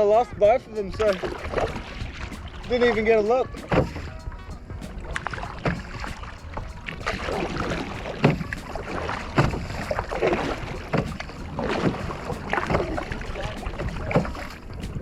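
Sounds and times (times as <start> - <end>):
water splashing around kayak: 0.0 - 15.0
wind on microphone: 0.0 - 15.0.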